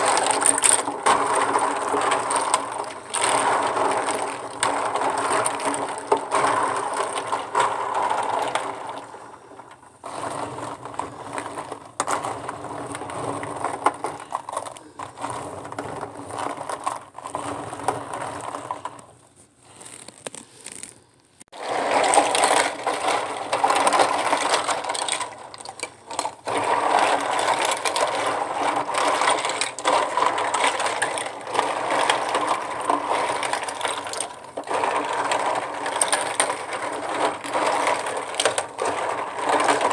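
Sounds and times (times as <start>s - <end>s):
plastic tubes clattering: 0.0s - 39.9s.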